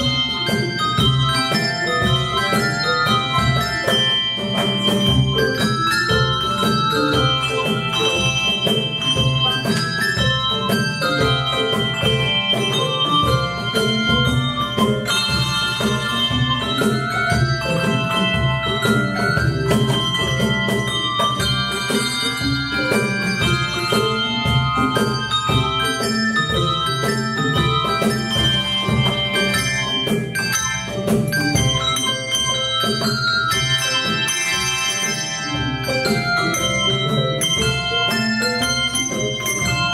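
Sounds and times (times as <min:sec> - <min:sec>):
handbell choir playing: 0:00.0 - 0:39.9.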